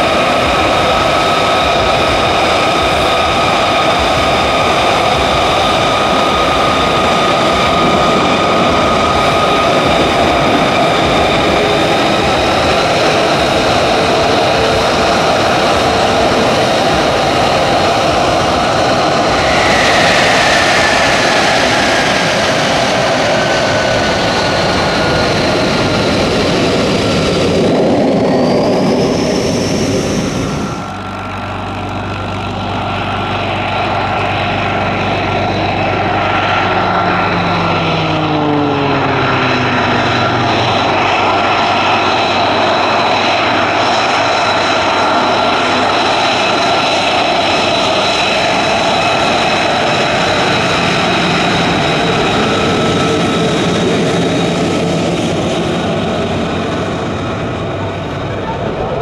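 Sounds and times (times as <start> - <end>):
jet engine whining: 0.0 - 59.0.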